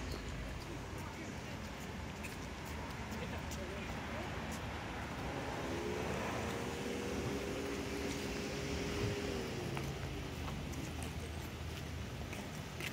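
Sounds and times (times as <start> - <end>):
traffic noise: 0.0 - 12.9
passing vehicle engine hum: 2.0 - 12.3.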